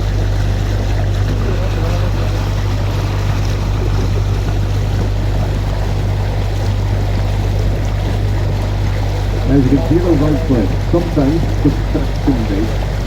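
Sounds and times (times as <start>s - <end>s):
boat engine humming: 0.0s - 13.0s
water moving past hull: 0.0s - 13.0s.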